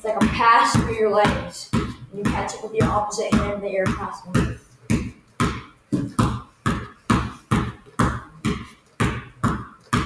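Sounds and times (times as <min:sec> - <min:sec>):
basketball bouncing on hardwood: 0:00.0 - 0:10.0.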